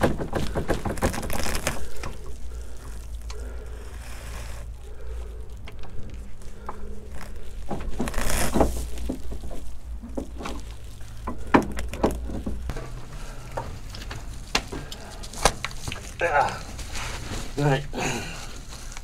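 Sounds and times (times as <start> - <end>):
scraping rustle: 0.0 - 19.0.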